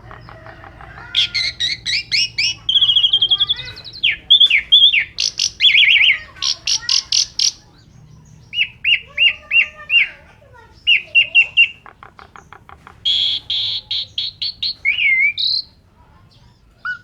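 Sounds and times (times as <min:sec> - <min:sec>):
starling singing: 0:00.0 - 0:17.0.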